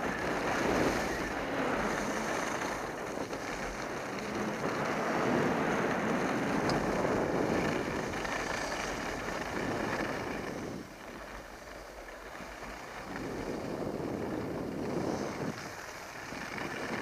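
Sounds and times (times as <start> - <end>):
skis scraping on snow: 0.0 - 17.0
wind buffeting microphone: 0.0 - 17.0.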